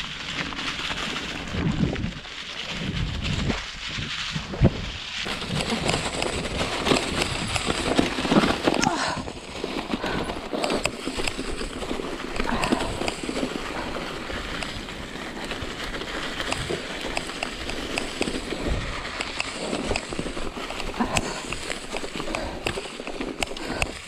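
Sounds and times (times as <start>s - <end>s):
bike tyres rushing on trail: 0.0s - 24.0s.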